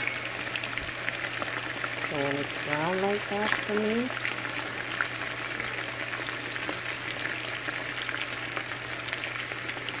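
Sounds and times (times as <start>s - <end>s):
chicken frying in oil: 0.0s - 10.0s.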